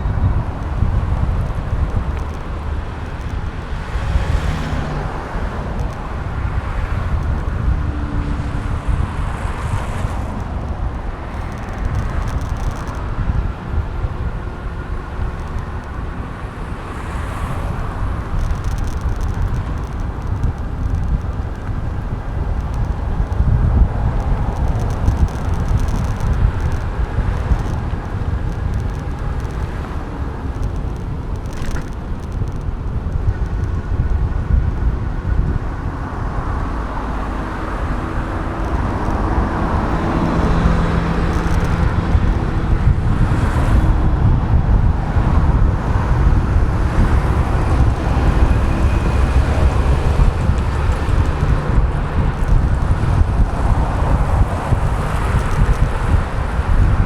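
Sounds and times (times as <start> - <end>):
car traffic: 0.0 - 57.0
vehicle engine hum: 0.0 - 57.0
wind rumbling on microphone: 0.0 - 57.0.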